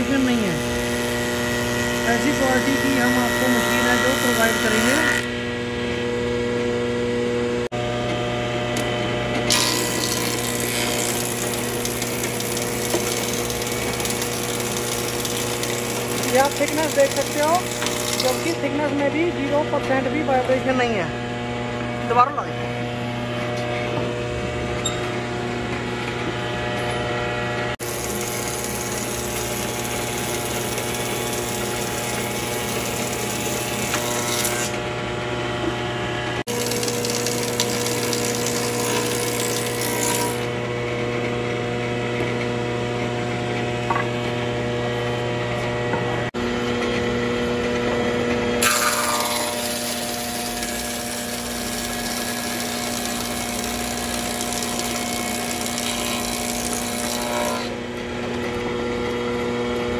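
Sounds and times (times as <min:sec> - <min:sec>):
planer motor hum: 0:00.0 - 0:59.9.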